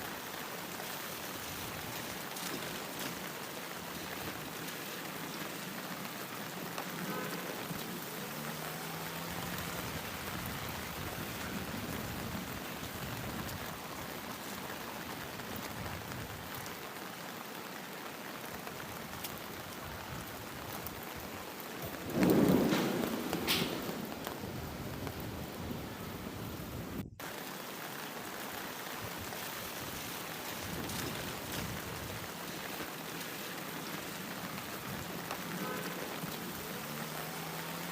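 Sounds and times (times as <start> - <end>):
rain pattering: 0.0 - 37.9.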